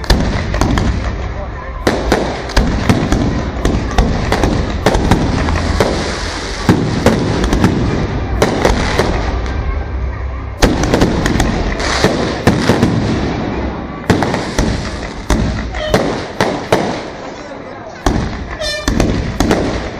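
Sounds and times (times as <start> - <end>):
steady low rumble: 0.0 - 17.3
fireworks bangs and crackles: 0.0 - 19.9.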